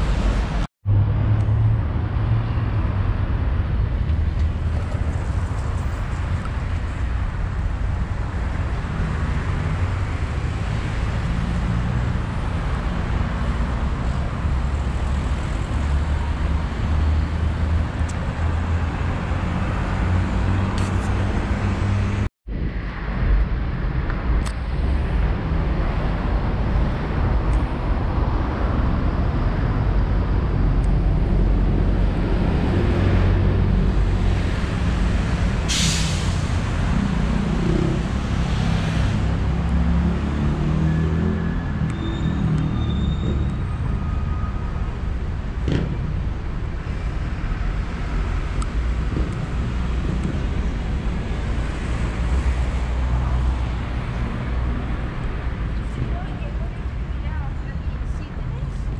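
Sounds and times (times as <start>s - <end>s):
vehicle road noise rumble: 0.0s - 58.9s.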